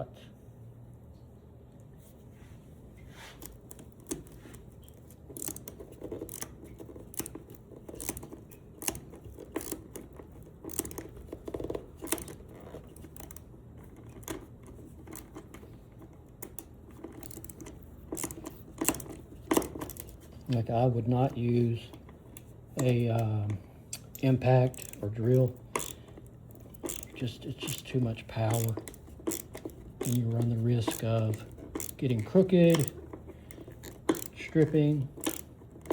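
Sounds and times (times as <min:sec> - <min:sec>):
ratchet clicking: 0:03.4 - 0:20.6, 0:22.2 - 0:35.9.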